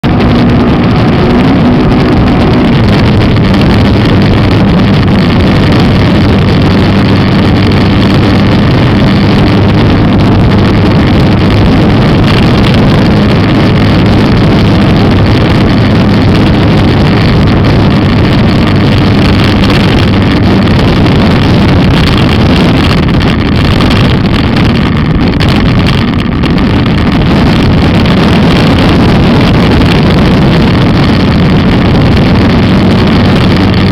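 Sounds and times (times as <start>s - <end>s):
motorcycle engine running: 0.0s - 33.9s
wind rushing over microphone: 0.0s - 33.9s.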